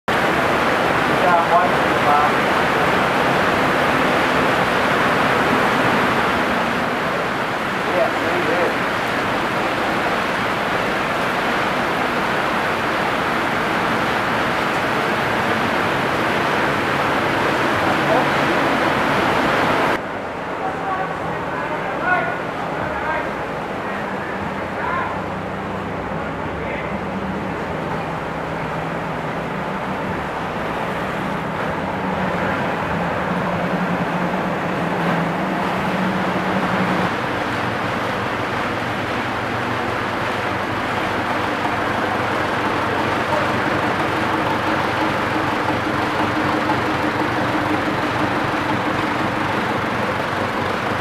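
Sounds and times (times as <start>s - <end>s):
floodwater rushing: 0.1s - 51.0s
vehicle engine hum: 0.1s - 51.0s.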